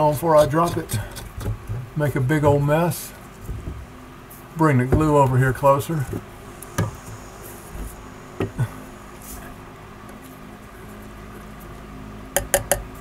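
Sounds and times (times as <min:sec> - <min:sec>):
faint low hum: 0:00.0 - 0:13.0
handling noise: 0:00.0 - 0:13.0.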